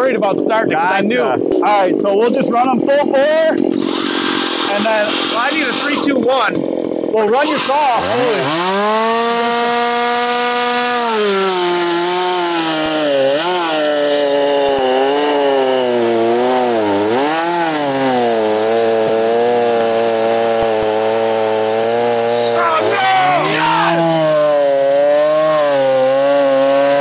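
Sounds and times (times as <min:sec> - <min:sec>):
chainsaws cutting log: 0:00.0 - 0:27.0.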